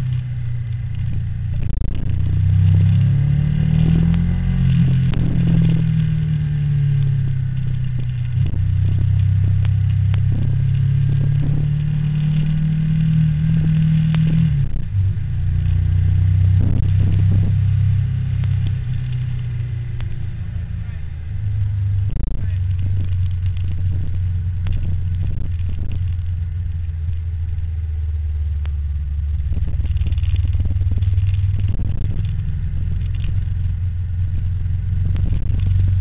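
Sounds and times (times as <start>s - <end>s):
vehicle engine running loudly: 0.0s - 36.0s.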